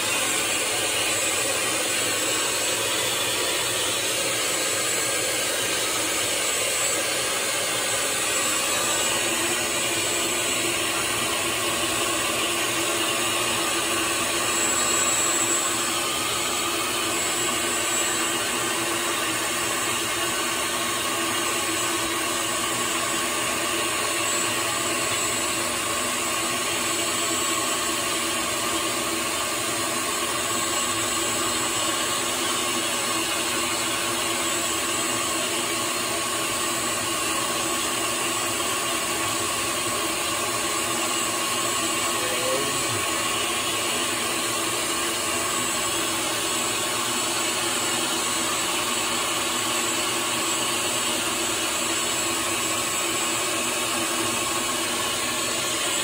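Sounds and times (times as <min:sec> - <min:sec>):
machine whir with tones: 0:00.0 - 0:56.0.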